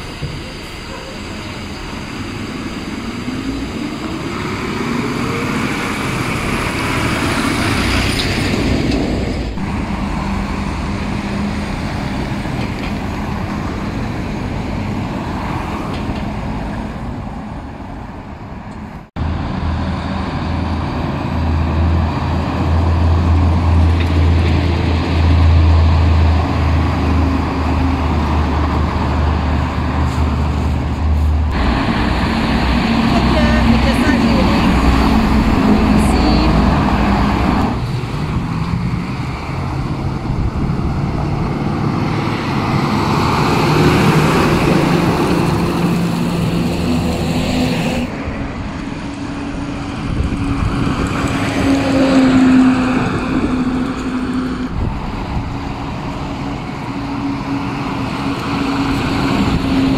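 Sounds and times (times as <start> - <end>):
deep diesel engine drone: 0.0 - 59.9
trucks and traffic driving past: 0.0 - 59.9.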